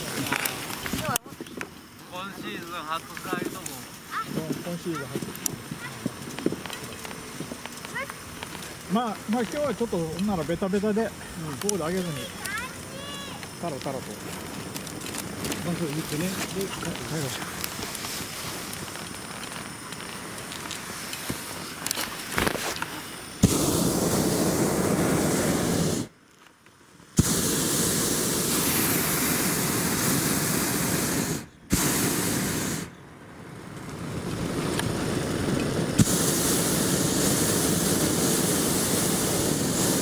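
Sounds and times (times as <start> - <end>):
propane burner firing: 0.0 - 40.0.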